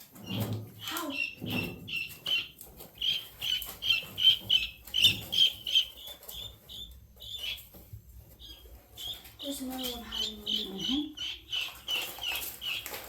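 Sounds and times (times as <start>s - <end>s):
birds rustling: 0.0s - 13.0s
guinea fowl peeping: 0.1s - 13.0s.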